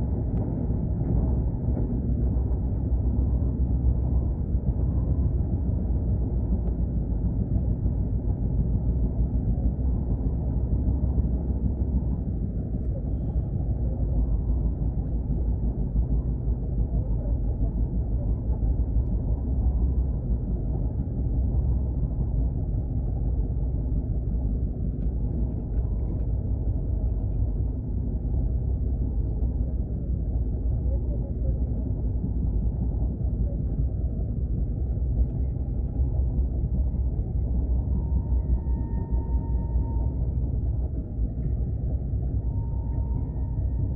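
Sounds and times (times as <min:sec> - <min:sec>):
moving train rumble: 0:00.0 - 0:43.9.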